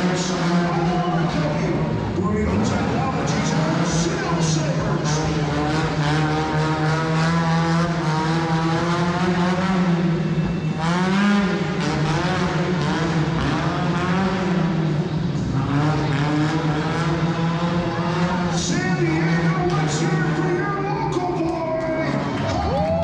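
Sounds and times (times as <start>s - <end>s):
truck engine revving: 0.0s - 22.9s.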